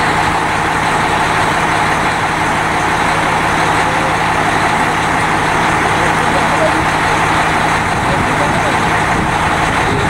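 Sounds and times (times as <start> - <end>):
locomotive diesel engine drone: 0.0 - 10.0.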